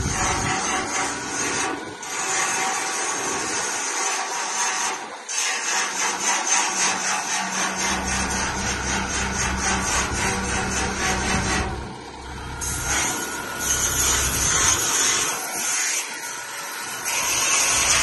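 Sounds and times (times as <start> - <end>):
cordless drill on sheet metal: 0.0 - 18.0.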